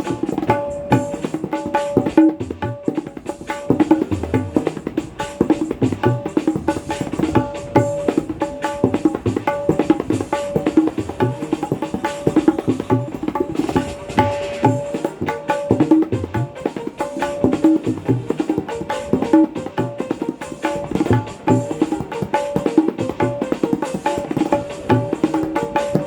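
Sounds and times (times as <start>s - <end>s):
tabla playing fast pattern: 0.0s - 26.0s.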